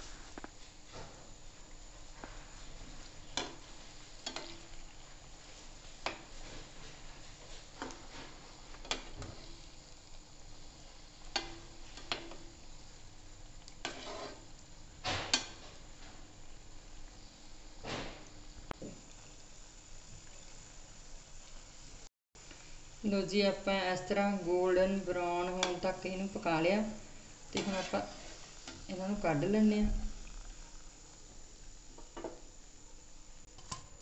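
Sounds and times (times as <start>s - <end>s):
fritters deep-frying in oil: 0.0s - 34.0s.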